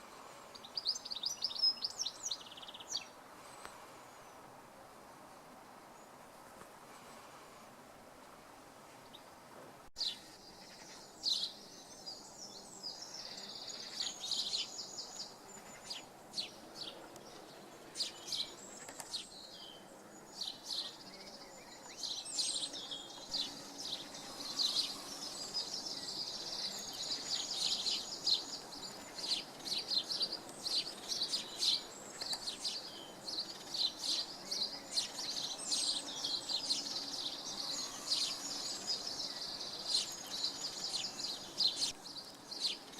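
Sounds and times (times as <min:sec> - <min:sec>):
faint background noise: 0:00.0 - 0:42.9
birds chirping and trilling: 0:00.5 - 0:04.4, 0:10.0 - 0:42.9.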